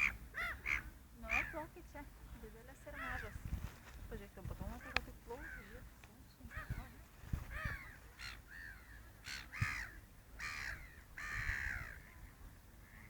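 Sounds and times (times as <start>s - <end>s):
birds cawing harshly: 0.0s - 1.7s, 2.8s - 3.4s, 4.7s - 13.0s.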